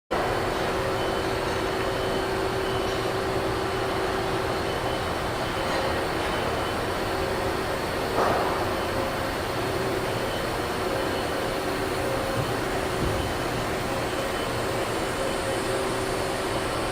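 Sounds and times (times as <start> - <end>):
machine hum and whir: 0.1 - 16.9.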